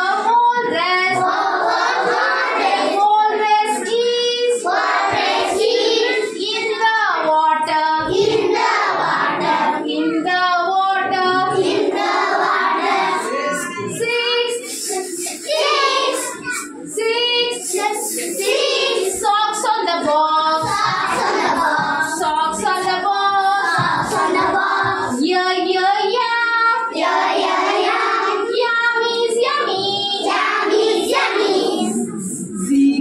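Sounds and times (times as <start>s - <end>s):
children singing in unison: 0.0s - 33.0s.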